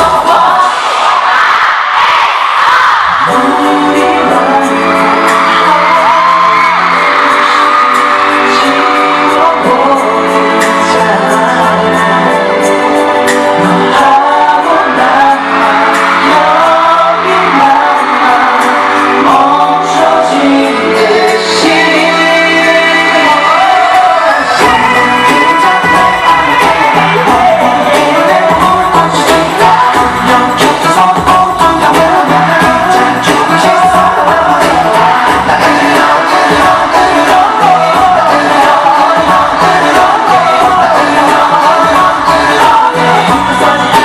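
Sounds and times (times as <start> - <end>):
male vocal group singing: 0.0 - 1.3, 2.8 - 44.0
loud amplified backing track: 0.0 - 44.0.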